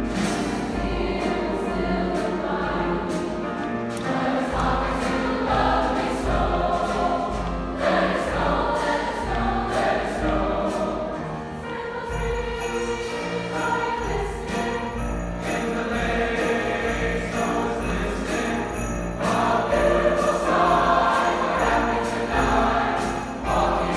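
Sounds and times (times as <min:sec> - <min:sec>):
large choir singing: 0:00.0 - 0:23.9
light high percussion beat: 0:00.0 - 0:23.9
piano accompaniment: 0:00.0 - 0:23.9.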